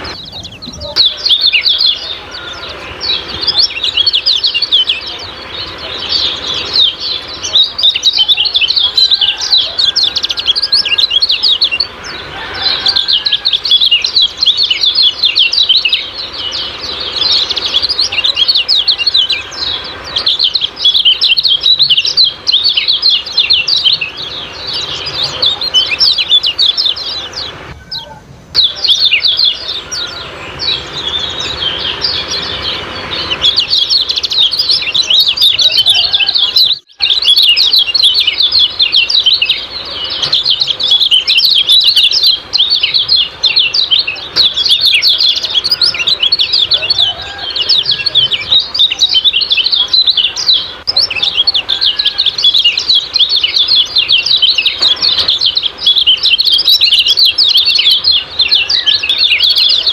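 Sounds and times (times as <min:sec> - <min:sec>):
bird chattering chirps: 0:00.0 - 0:59.9.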